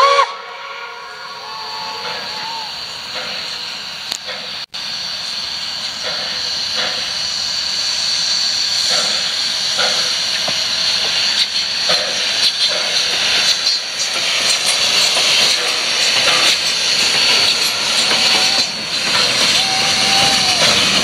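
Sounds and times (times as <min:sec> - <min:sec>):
steam train running: 0:00.0 - 0:21.0.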